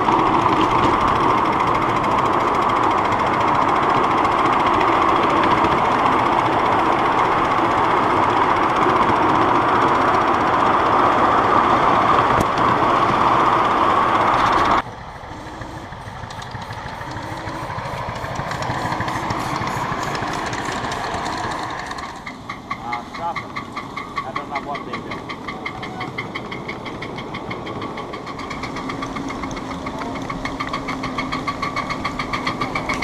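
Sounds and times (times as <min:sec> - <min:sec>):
small locomotive ticking: 0:00.0 - 0:33.0
wheels rushing on rails: 0:00.0 - 0:33.0.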